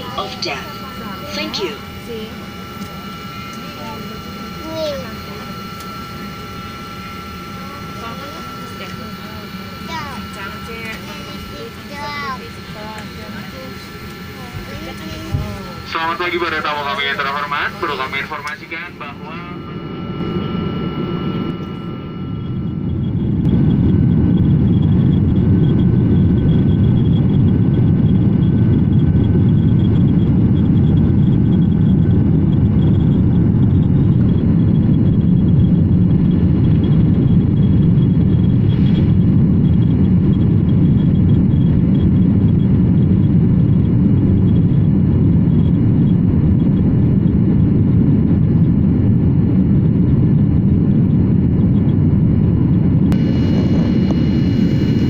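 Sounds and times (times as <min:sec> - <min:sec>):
faint high whine: 0:00.0 - 0:55.0
jet engine roar in cabin: 0:00.0 - 0:55.0.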